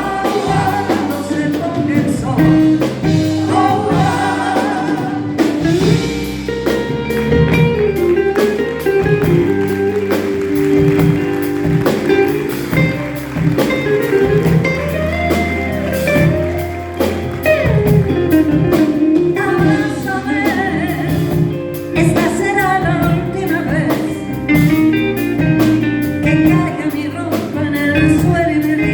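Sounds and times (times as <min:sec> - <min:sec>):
live band playing pop ballad: 0:00.0 - 0:28.9.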